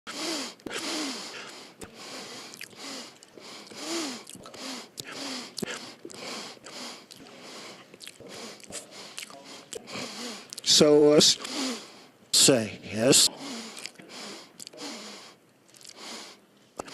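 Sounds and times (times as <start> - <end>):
man sniffing: 0.1 - 10.7, 11.4 - 12.1, 13.3 - 16.9.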